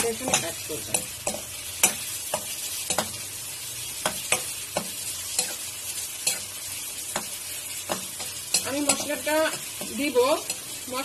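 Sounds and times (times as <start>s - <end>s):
metal spoon scraping a wok: 0.0s - 3.2s, 3.9s - 11.0s
onions sizzling in oil: 0.0s - 11.0s.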